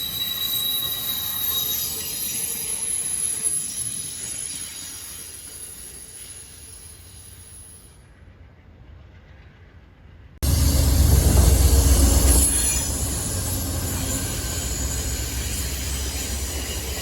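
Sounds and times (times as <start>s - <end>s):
train wheels squealing on rails: 0.0s - 9.8s, 10.4s - 17.0s
train rumbling: 0.0s - 17.0s.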